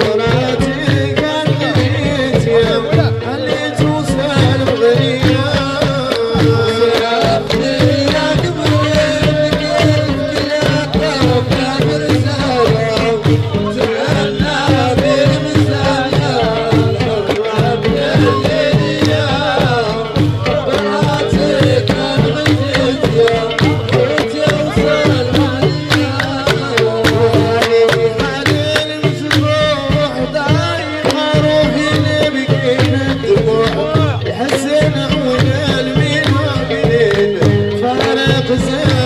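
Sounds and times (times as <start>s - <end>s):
frame drums beating: 0.0s - 39.0s
men singing: 0.0s - 39.0s.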